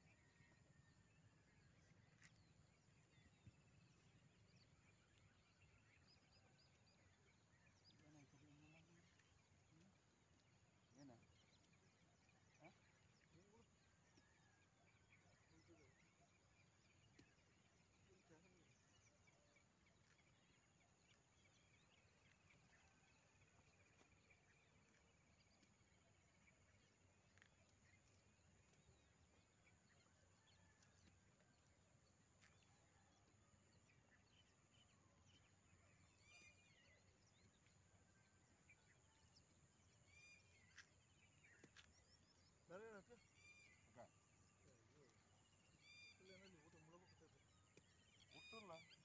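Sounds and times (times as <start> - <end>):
faint high bird chirps: 0.0 - 31.8, 32.4 - 49.0.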